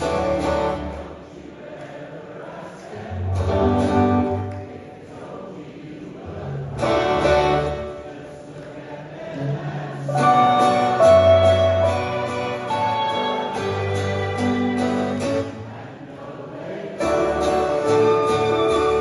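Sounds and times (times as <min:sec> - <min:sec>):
acoustic guitar: 0:00.0 - 0:01.5, 0:02.8 - 0:05.3, 0:06.2 - 0:08.6, 0:09.3 - 0:19.0
many voices singing: 0:00.0 - 0:19.0.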